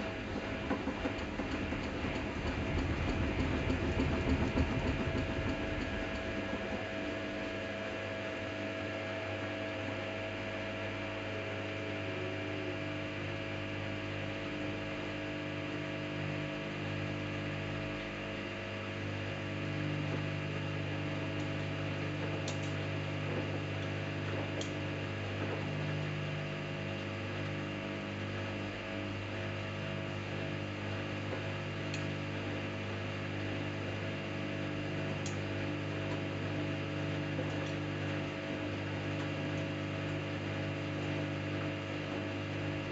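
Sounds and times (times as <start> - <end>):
washing machine motor hum: 0.0 - 42.9.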